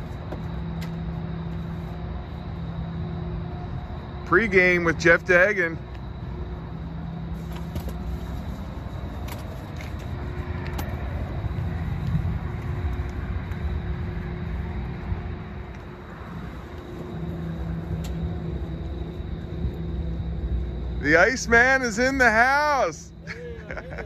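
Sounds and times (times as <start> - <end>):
car engine rumble: 0.0 - 24.0
low hum: 0.0 - 24.0
road noise: 0.0 - 24.0.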